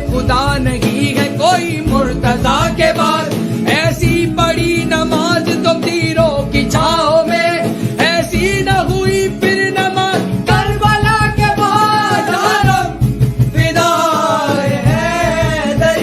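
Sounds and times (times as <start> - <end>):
instrumental backing: 0.0 - 16.0
person singing: 0.0 - 16.0.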